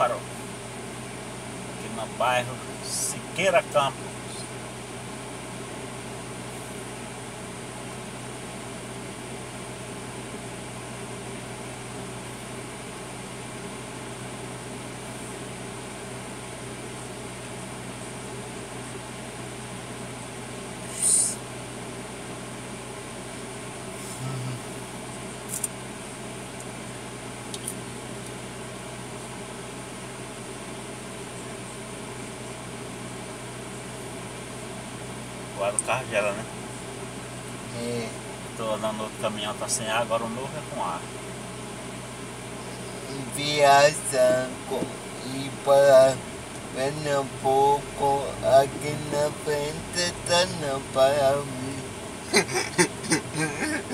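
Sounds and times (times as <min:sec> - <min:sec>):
air conditioning hum in truck cab: 0:00.0 - 0:53.9.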